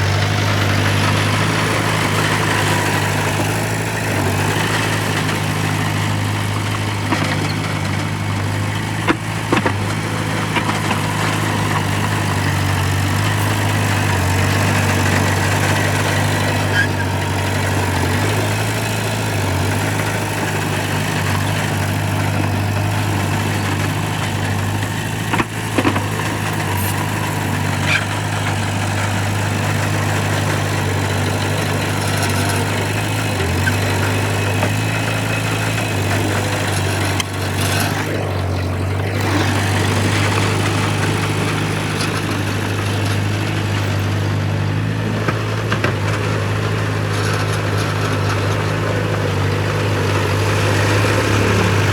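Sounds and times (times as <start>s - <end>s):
heavy diesel engine running: 0.0s - 51.9s.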